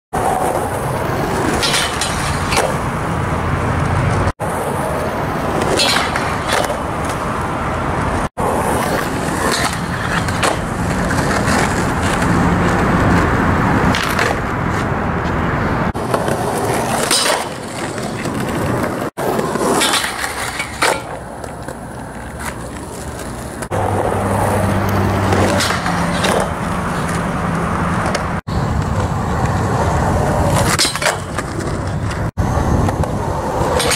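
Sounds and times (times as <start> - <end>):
skateboard wheels rolling on asphalt: 0.1 - 33.9
skateboard clacks: 0.2 - 2.9, 4.9 - 13.2, 13.9 - 14.9, 15.9 - 23.9, 24.8 - 33.9
skateboard trucks grinding steel bar: 0.2 - 15.0, 15.9 - 33.9.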